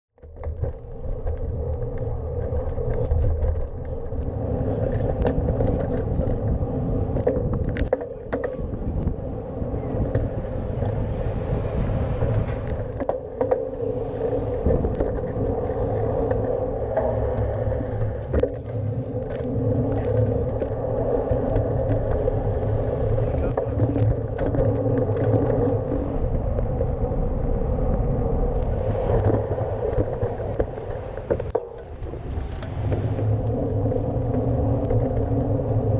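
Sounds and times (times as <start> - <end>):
road and wind rumble: 0.2 - 35.9.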